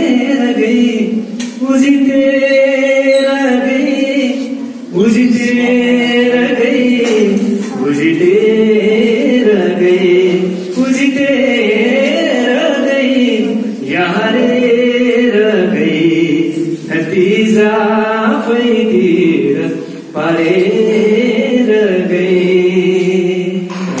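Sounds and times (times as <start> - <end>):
man singing into a microphone: 0.0 - 24.0.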